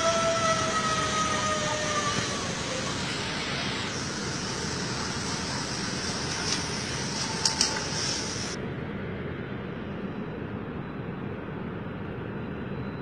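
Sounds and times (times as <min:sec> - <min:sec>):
rushing street noise with hiss: 0:00.0 - 0:13.0.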